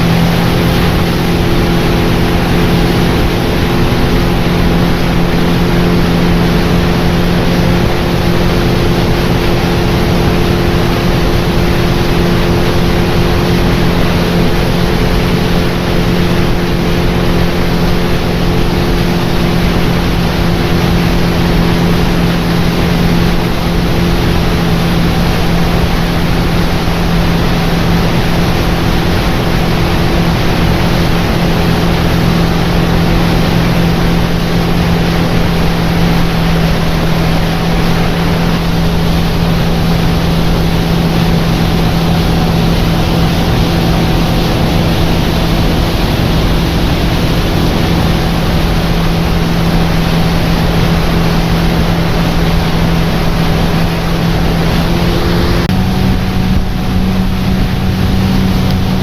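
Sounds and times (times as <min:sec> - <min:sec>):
outboard motor drone: 0:00.0 - 0:59.0
rushing water noise: 0:00.0 - 0:59.0.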